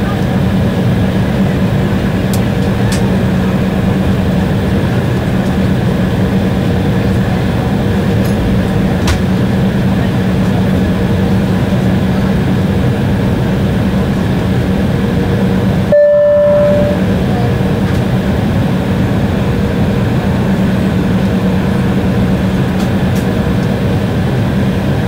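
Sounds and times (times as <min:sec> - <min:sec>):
aircraft cabin engine noise: 0:00.0 - 0:25.0
low hum: 0:00.0 - 0:25.0.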